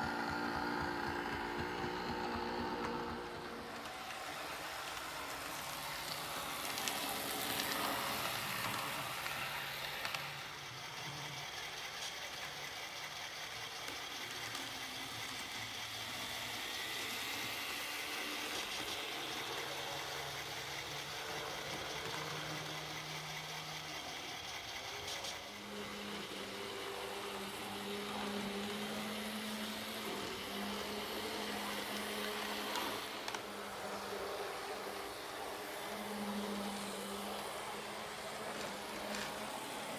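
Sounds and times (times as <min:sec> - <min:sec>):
model locomotive mechanical hum: 0:00.0 - 0:39.9
wheels clicking on track: 0:00.0 - 0:39.9.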